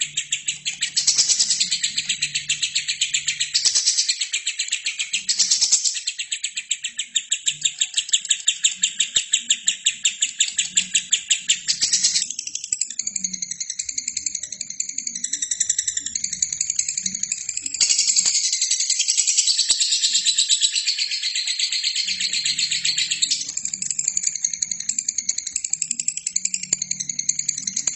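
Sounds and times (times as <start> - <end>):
bird chirping rapidly: 0.0 - 27.9
bird twittering softly: 0.0 - 27.9.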